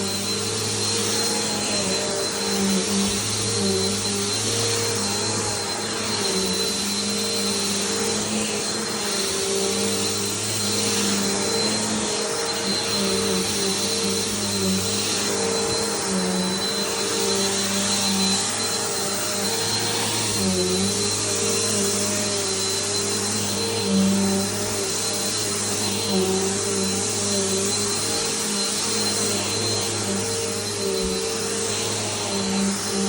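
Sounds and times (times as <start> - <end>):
upright vacuum cleaner running: 0.0 - 33.0.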